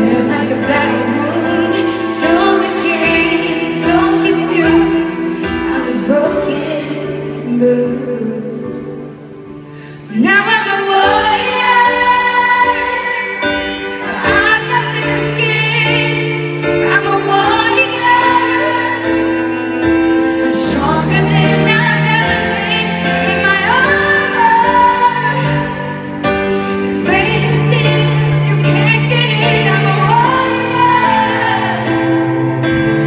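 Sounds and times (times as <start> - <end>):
grand piano chords: 0.0 - 33.0
woman singing a ballad: 0.0 - 33.0.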